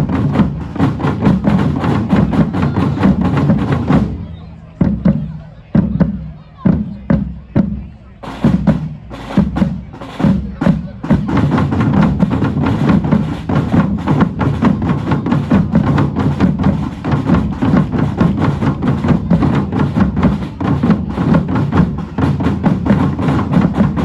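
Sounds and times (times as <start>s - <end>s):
deep bass drums: 0.0s - 24.0s
drum band playing: 0.0s - 24.0s.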